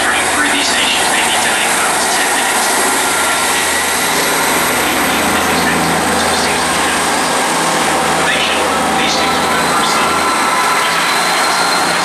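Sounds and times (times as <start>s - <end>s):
diesel train engine drone: 0.0s - 12.0s.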